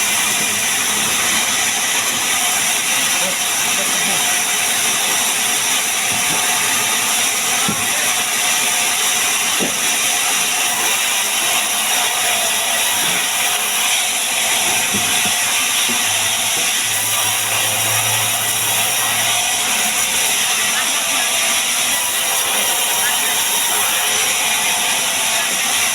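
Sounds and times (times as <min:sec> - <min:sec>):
power woodworking tool hissing: 0:00.0 - 0:25.9.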